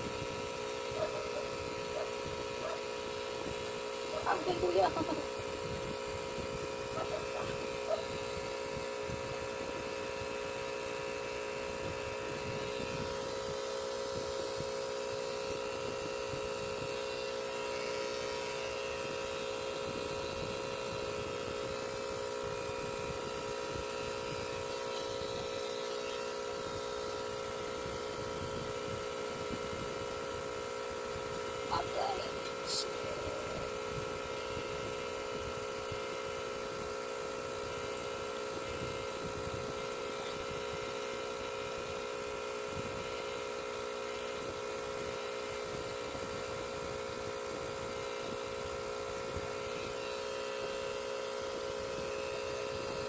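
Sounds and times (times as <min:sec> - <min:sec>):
tattoo machine humming: 0:00.0 - 0:53.0.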